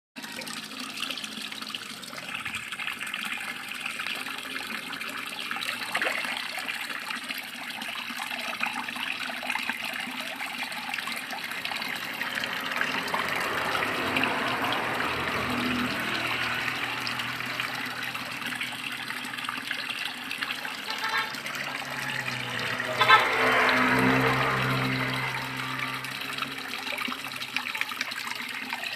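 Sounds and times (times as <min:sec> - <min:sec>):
water splashing into pond: 0:00.2 - 0:28.9.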